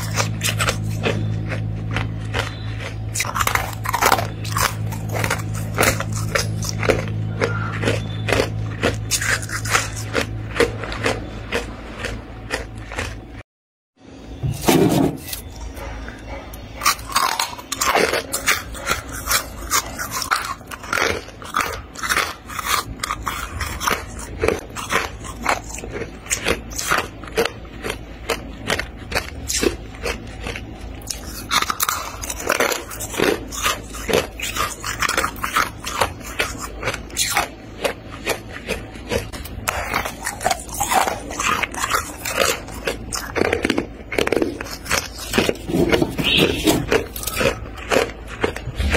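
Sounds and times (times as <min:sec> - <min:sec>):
freezer frost crunching and crackling: 0:00.0 - 0:13.4, 0:14.4 - 0:48.9.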